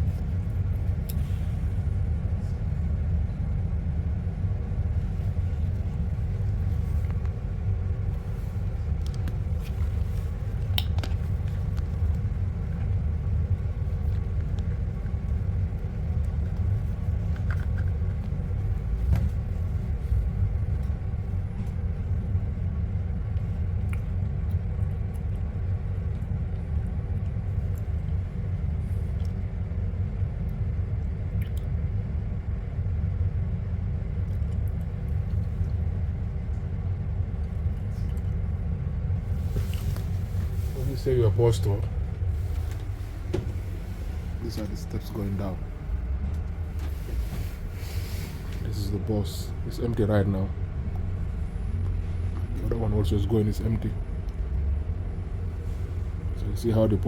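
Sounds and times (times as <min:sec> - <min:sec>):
bus rumbling in motion: 0:00.0 - 0:57.0.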